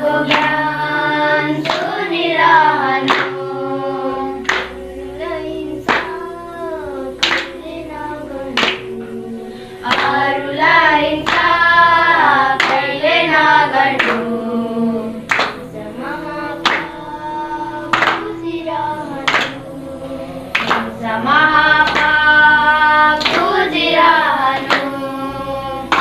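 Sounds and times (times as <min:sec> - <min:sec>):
children singing: 0:00.0 - 0:26.0
hand claps: 0:00.1 - 0:03.5, 0:04.3 - 0:06.3, 0:07.2 - 0:14.4, 0:15.2 - 0:15.8, 0:16.6 - 0:17.2, 0:17.8 - 0:26.0.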